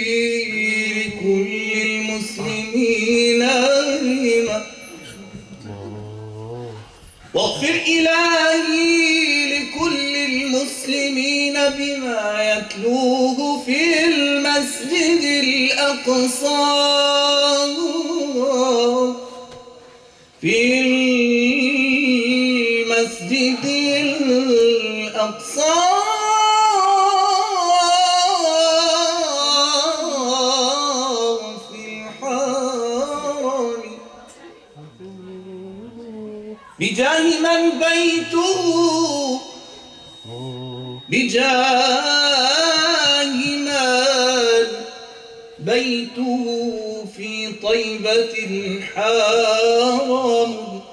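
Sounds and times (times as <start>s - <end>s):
man singing into a microphone: 0.0s - 50.9s.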